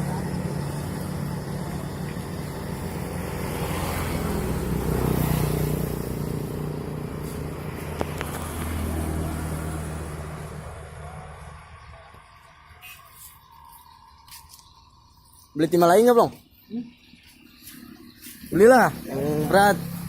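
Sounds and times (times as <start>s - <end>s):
road and wind noise: 0.0s - 20.0s
vehicle engine running: 0.0s - 20.0s.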